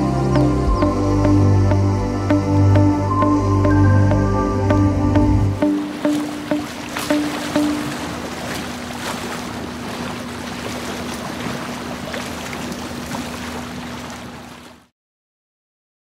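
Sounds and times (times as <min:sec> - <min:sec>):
boat engine humming: 0:00.0 - 0:14.9
water noise: 0:00.0 - 0:14.9.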